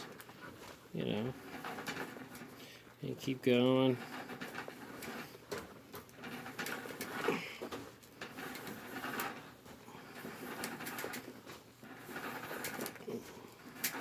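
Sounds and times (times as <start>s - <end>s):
scraping and rustling: 0.0s - 14.0s.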